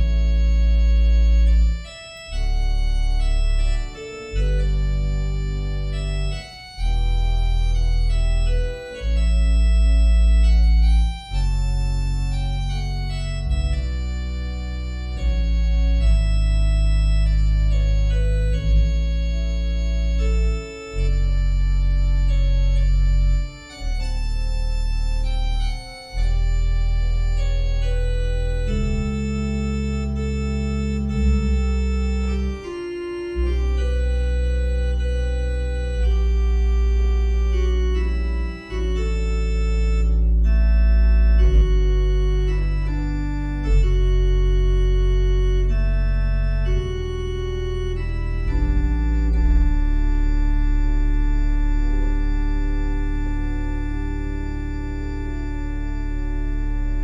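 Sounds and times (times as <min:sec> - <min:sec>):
organ playing sustained chords: 0:00.0 - 0:57.0.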